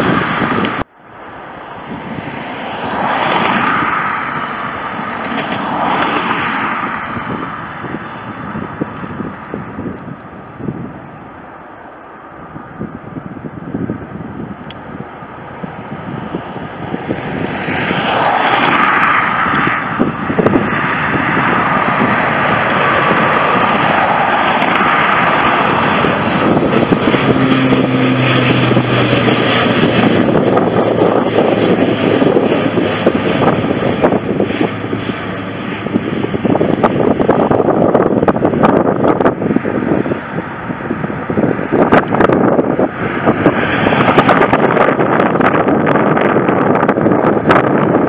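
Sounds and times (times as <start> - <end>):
low propeller hum: 0.0 - 48.0
turboprop airliner climbing overhead: 0.0 - 48.0.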